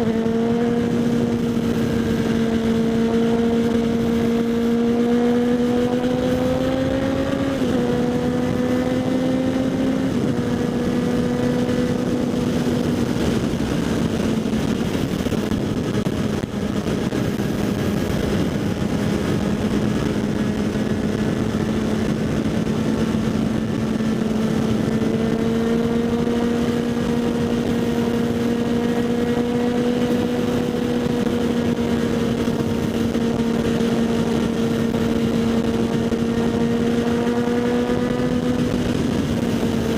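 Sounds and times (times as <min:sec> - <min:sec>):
motorcycle engine cruising: 0:00.0 - 0:39.9
wind on microphone: 0:00.0 - 0:39.9.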